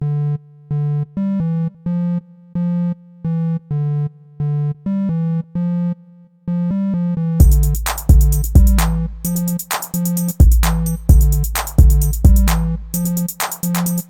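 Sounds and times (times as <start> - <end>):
synthesizer melody: 0.0 - 14.0.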